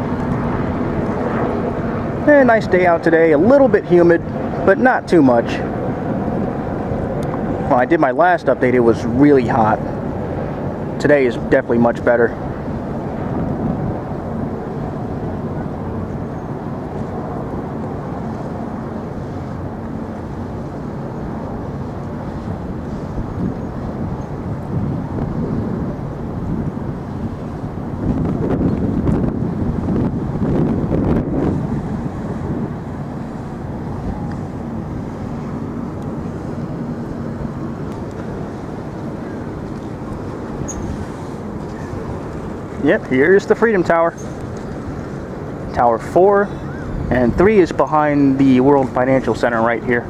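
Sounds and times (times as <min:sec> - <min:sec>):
low engine drone: 0:00.0 - 0:50.0
low rumble of city ambience: 0:00.0 - 0:50.0.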